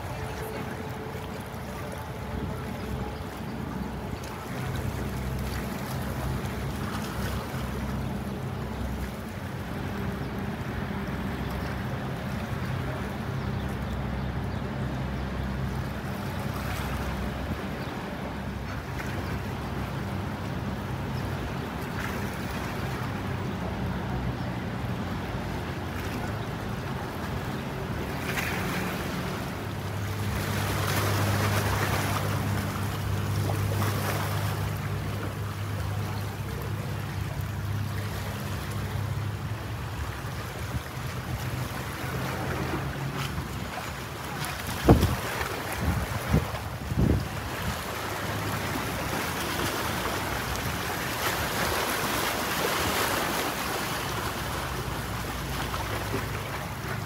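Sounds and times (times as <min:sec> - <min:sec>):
boat engine drone: 0:00.0 - 0:57.0
water noise: 0:00.0 - 0:57.0
wind: 0:00.0 - 0:57.0.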